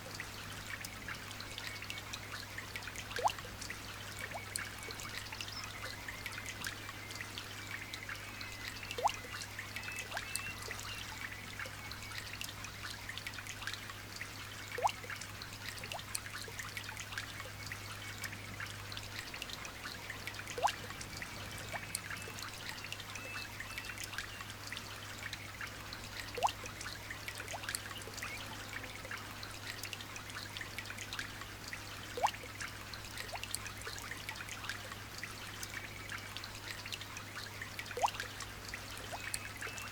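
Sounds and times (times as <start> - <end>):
light rain dripping: 0.0 - 39.9.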